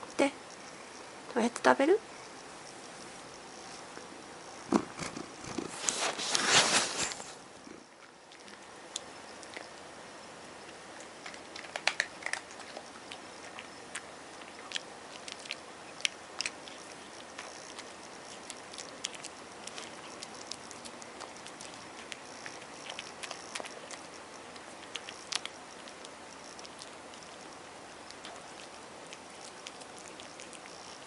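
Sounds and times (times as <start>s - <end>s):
cat crunching treats: 4.6s - 9.8s, 10.7s - 31.0s.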